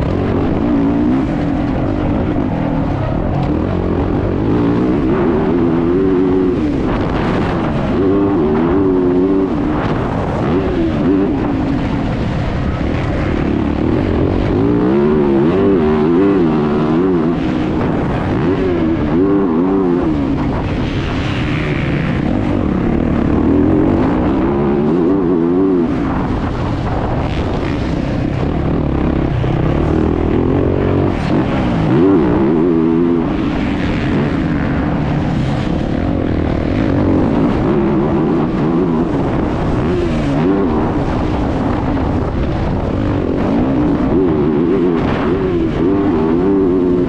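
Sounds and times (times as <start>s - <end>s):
motocross bike engine revving: 0.0s - 47.0s.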